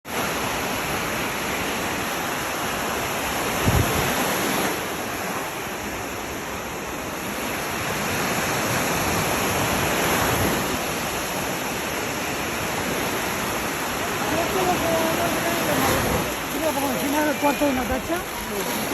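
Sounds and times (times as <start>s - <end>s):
waves washing onto beach: 0.1s - 18.9s.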